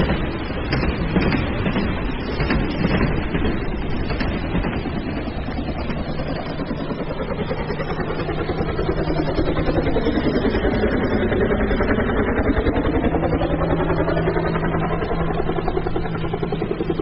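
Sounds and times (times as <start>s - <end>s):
rough engine-like running noise: 0.0s - 17.0s.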